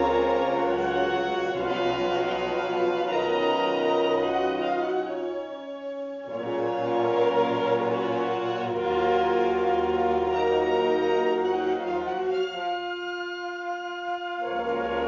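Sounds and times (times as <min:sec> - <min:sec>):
wind ensemble playing chords: 0:00.0 - 0:15.0.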